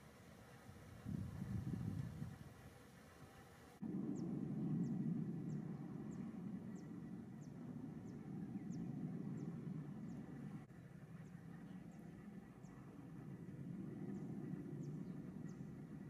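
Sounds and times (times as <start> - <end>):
steady low rumble: 0.8 - 2.6, 3.8 - 16.0.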